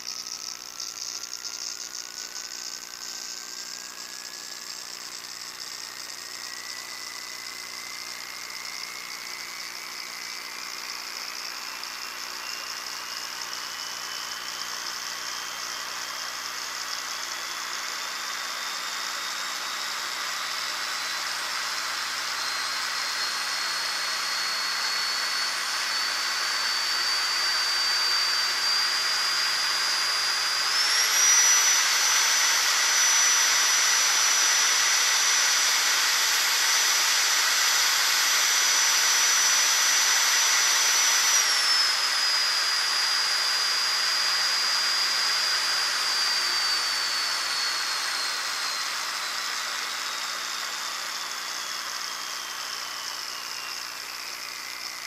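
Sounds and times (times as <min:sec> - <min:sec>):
jet engine turbine whine: 0:00.0 - 0:55.0.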